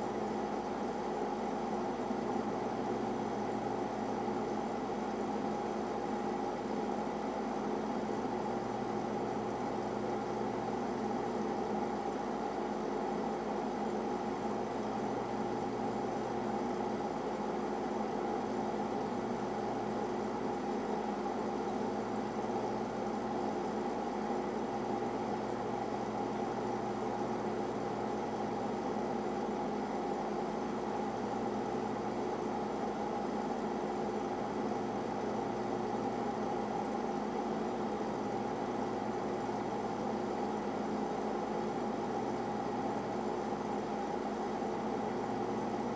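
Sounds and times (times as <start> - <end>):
boiler mechanical hum: 0.0 - 45.9.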